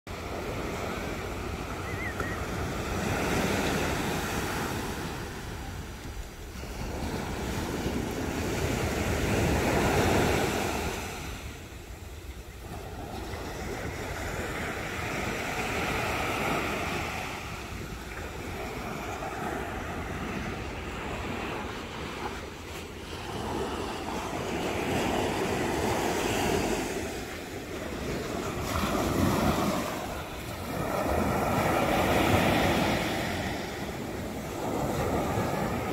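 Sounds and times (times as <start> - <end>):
sea waves breaking on sand: 0.1 - 11.7, 12.6 - 35.9.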